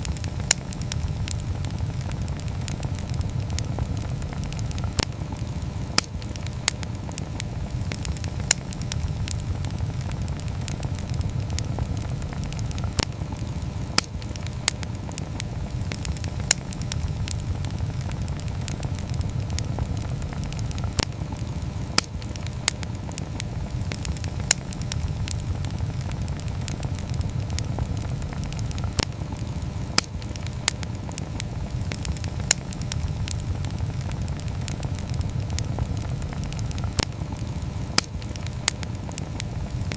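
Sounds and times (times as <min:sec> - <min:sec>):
campfire flames rumbling: 0:00.0 - 0:39.9
fire crackles and pops: 0:00.0 - 0:39.9.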